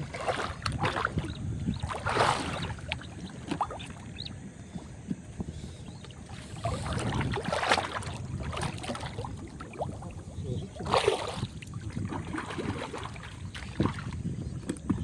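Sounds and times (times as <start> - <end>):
steady low rumble: 0.0 - 12.3
splashing in shallow water: 0.0 - 15.0.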